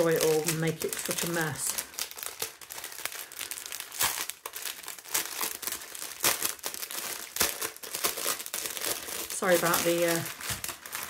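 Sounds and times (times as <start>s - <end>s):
plastic wrapper crackling: 0.0s - 11.0s.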